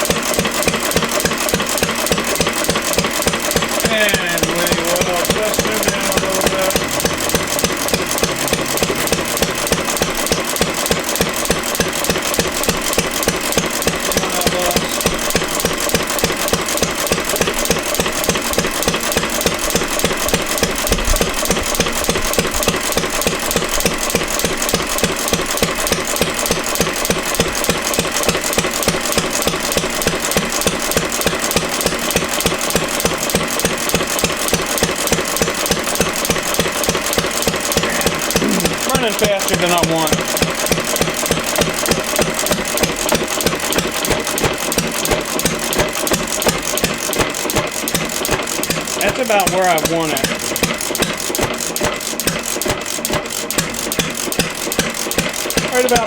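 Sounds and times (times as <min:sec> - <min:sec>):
gas engine running: 0:00.0 - 0:56.0.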